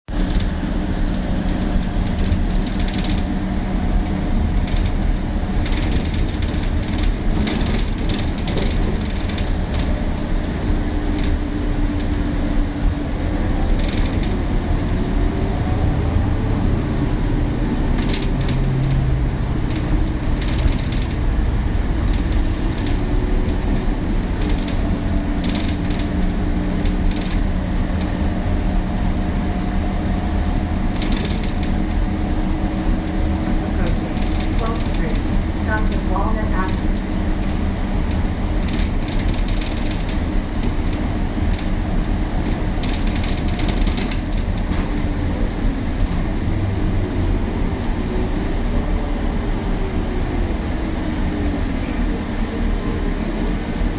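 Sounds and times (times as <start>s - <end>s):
bus body creaking and rattling: 0.1s - 53.9s
bus engine and road rumble: 0.1s - 53.9s.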